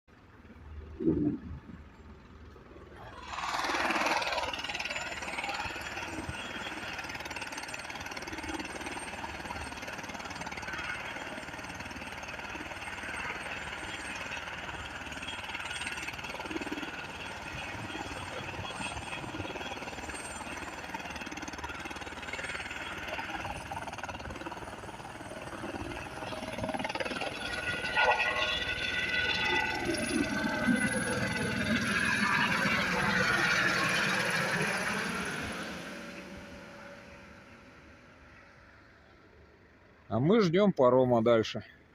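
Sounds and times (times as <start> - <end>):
helicopter rotor beat: 0.1 - 40.5
helicopter turbine whine: 0.1 - 41.9.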